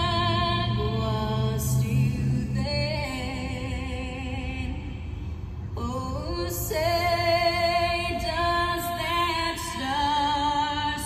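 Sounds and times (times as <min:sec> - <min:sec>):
woman singing slow song: 0:00.0 - 0:05.0, 0:05.8 - 0:11.0.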